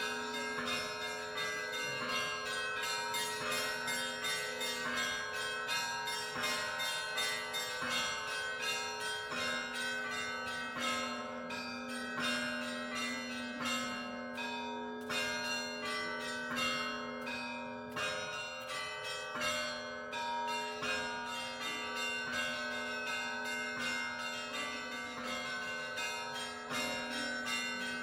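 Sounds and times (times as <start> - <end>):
church bells ringing rhythmically: 0.0 - 28.0
steady low bell tone: 0.0 - 28.0.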